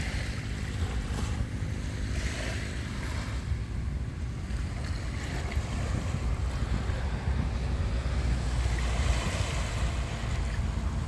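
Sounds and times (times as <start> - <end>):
small waves washing on shore: 0.0 - 11.0
wind rumbling on microphone: 0.0 - 11.0.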